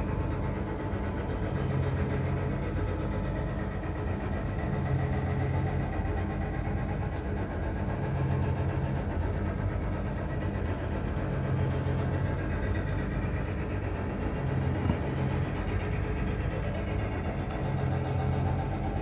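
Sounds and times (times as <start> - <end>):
engines droning: 0.0 - 19.0.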